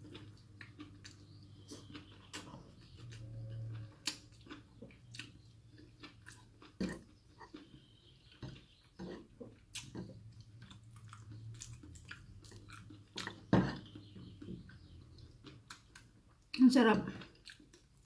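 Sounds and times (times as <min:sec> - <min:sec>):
person chewing food: 0:00.0 - 0:16.5, 0:17.2 - 0:18.0
faint low hum: 0:00.0 - 0:18.0.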